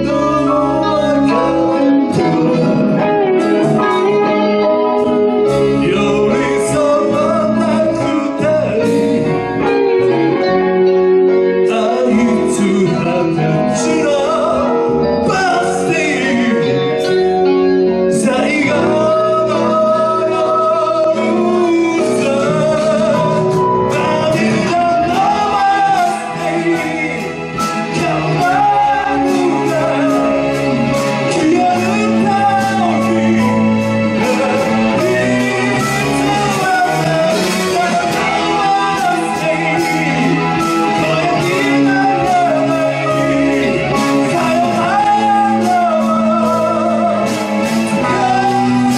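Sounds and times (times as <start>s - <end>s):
electric guitar: 0.0s - 48.9s
live rock band: 0.0s - 48.9s
person singing: 0.0s - 48.9s.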